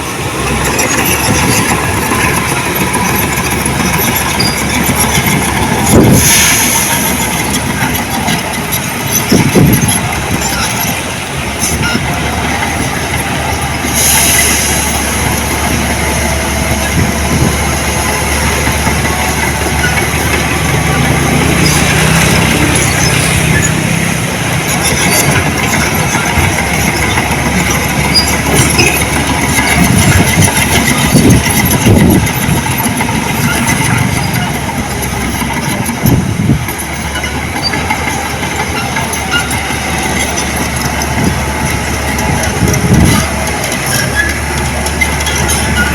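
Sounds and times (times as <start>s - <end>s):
heavy machinery engine under load: 0.0s - 45.9s.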